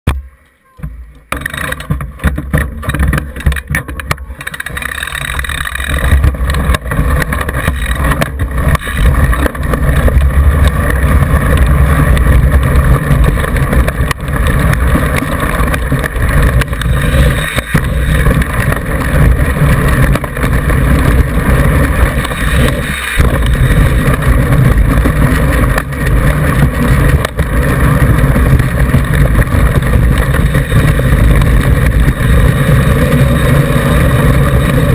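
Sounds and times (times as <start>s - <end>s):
bike knocks and clicks: 0.1s - 34.9s
bike tyre rumble and rattles: 0.1s - 34.9s
wind buffeting microphone: 1.4s - 34.9s.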